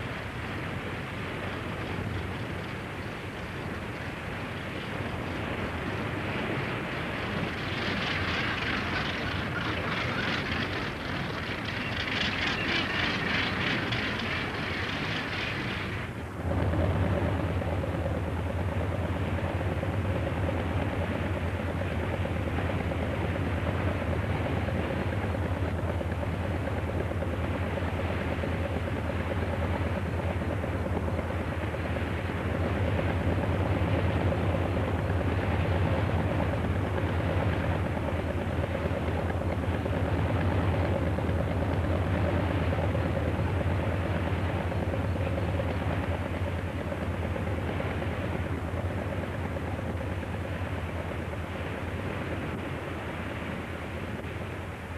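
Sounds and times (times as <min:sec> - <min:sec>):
boat engine drone: 0:00.0 - 0:54.9.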